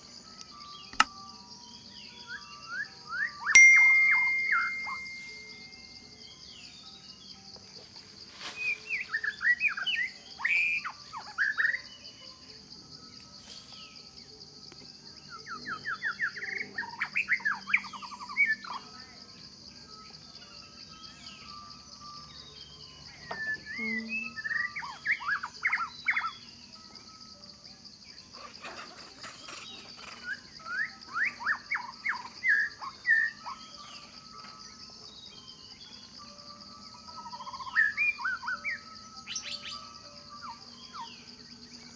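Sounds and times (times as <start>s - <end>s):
high-pitched insect drone: 0.0s - 41.9s
songbird chirping: 0.0s - 41.9s.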